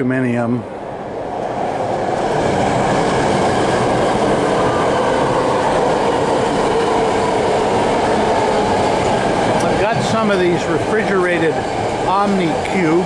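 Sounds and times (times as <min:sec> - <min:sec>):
passing train rumble: 0:00.0 - 0:13.0.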